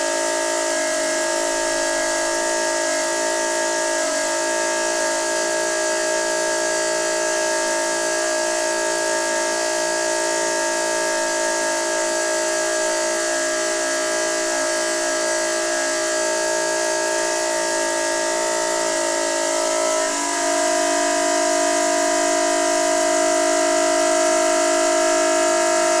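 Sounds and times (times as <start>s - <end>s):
water pipe humming tones: 0.0s - 26.0s.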